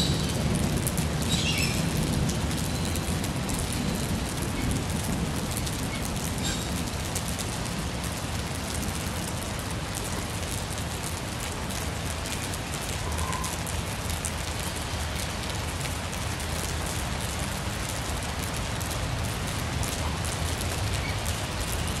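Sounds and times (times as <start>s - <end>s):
rain on fabric shade cloth: 0.0s - 22.0s.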